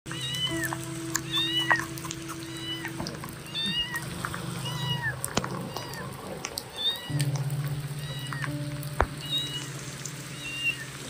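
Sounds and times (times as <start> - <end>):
steady low drone: 0.1 - 6.5, 7.1 - 11.0
kitten mewing: 0.1 - 9.7.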